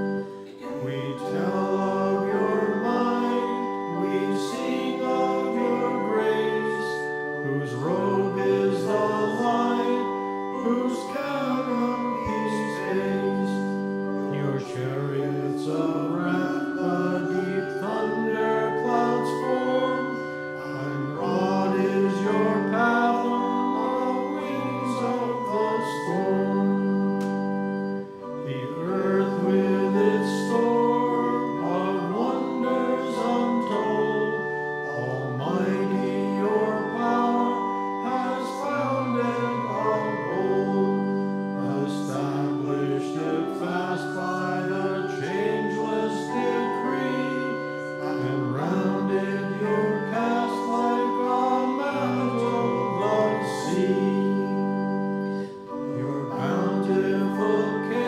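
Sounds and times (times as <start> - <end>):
congregation singing a hymn: 0.0 - 58.0
organ chords: 0.0 - 58.0.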